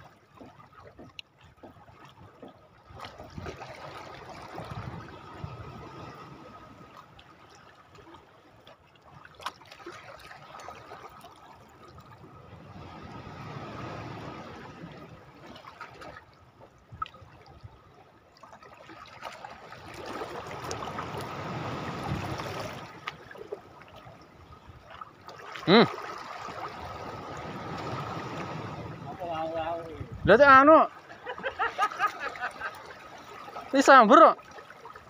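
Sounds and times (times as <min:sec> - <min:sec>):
small waves lapping on rocks: 0:00.0 - 0:35.0.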